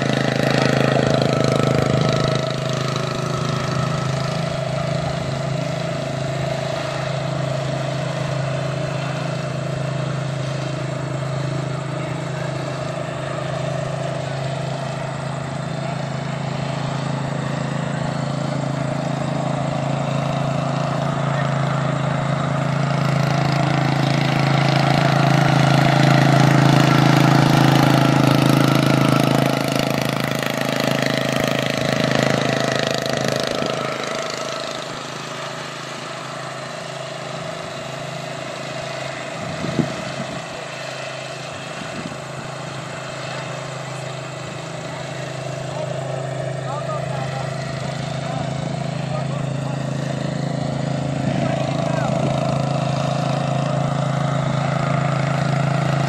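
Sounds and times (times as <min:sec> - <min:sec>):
small engine driving past: 0:00.0 - 0:56.0.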